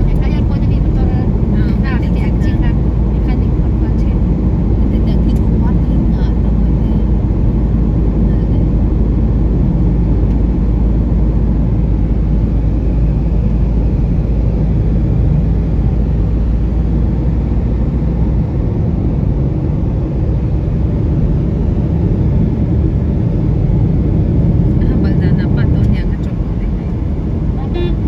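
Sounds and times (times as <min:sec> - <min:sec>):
vehicle rumble: 0:00.0 - 0:28.0.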